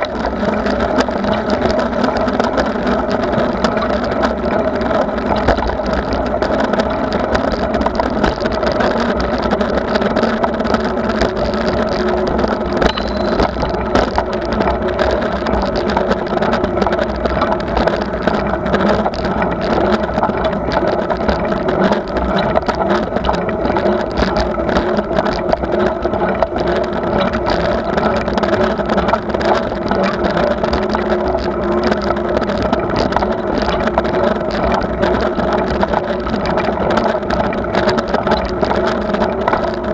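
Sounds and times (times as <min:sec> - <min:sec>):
bicycle ride rumble: 0:00.0 - 0:39.9.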